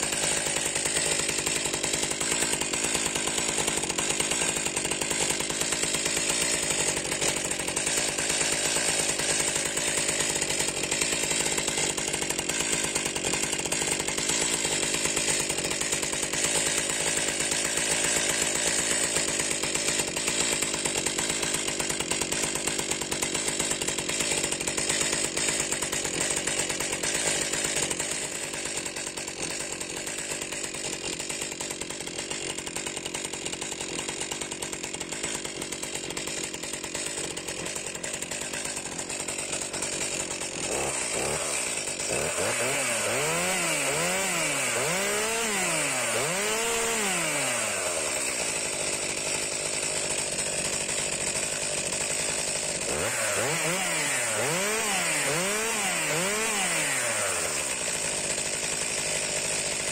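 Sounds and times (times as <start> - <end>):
chainsaw idling: 0.0 - 59.9.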